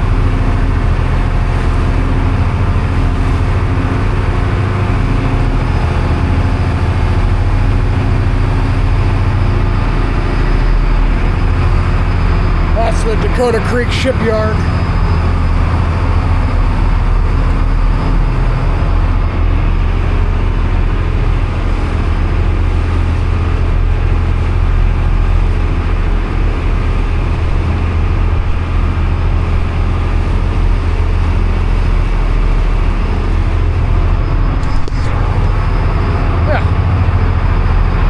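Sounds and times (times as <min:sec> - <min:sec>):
boat engine drone: 0:00.0 - 0:38.0
rush of wind and water: 0:00.0 - 0:38.0.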